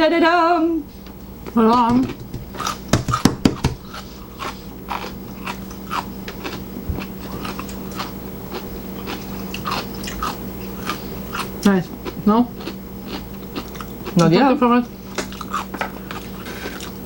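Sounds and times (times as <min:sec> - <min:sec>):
chewing and biting food: 0:02.2 - 0:14.3, 0:15.1 - 0:17.0.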